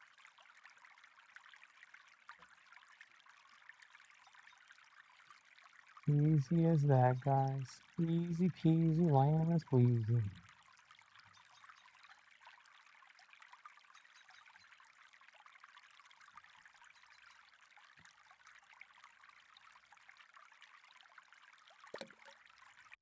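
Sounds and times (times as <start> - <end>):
trickling water: 0.0 - 23.0.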